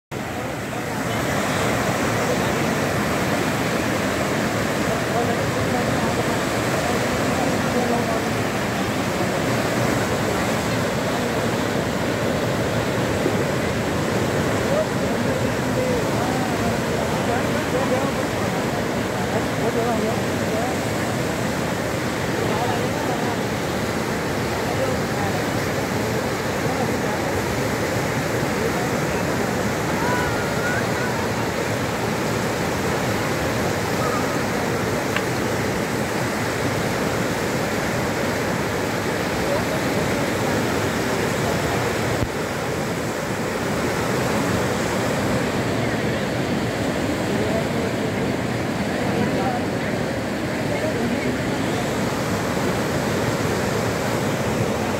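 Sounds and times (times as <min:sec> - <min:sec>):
floodwater rushing: 0:00.1 - 0:54.9.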